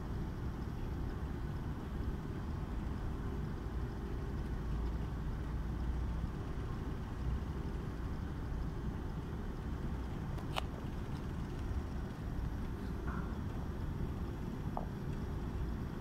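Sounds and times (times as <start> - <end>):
faint hum: 0.0 - 16.0
machine low rumble: 0.0 - 16.0.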